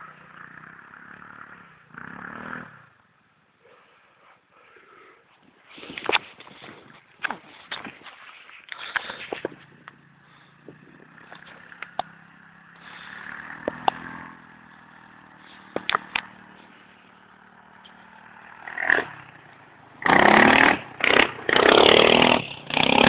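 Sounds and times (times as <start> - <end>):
distant atv engine running: 0.0 - 4.4, 5.8 - 23.0.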